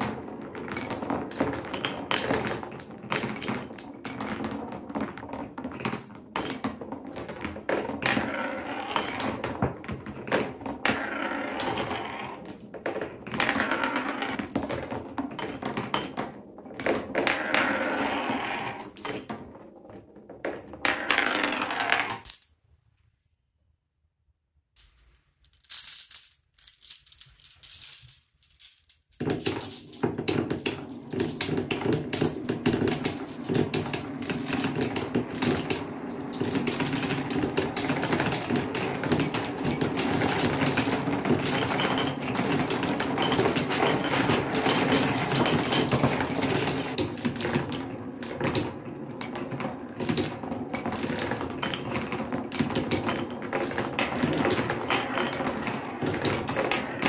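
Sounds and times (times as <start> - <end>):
marbles rattling down wooden run: 0.0 - 22.4, 25.5 - 57.0.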